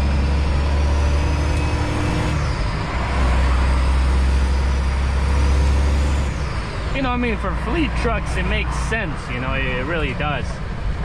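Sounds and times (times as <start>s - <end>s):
truck diesel engine droning: 0.0s - 11.0s
tyre and road noise: 0.0s - 11.0s.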